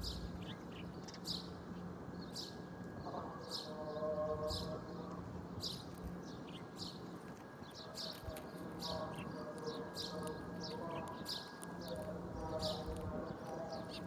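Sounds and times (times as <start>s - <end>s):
faint low hum: 0.0s - 14.0s
small birds chirping: 0.0s - 14.0s.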